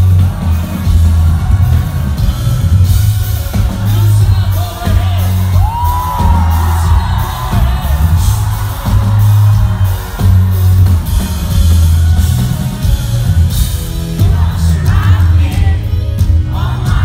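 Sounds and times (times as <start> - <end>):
live rock band music: 0.0 - 17.0.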